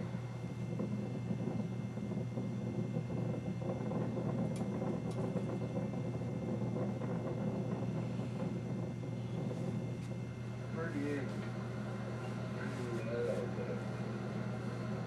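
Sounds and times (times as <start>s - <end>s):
car driving interior drone: 0.0s - 15.0s
constant low hum: 0.0s - 15.0s.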